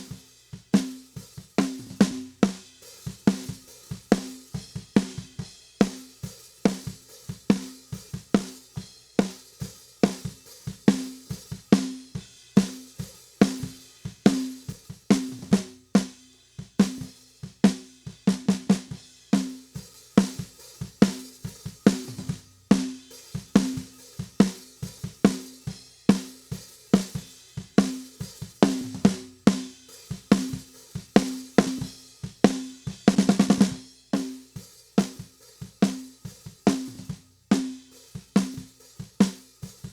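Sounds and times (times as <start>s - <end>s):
drum kit beat: 0.0s - 39.9s.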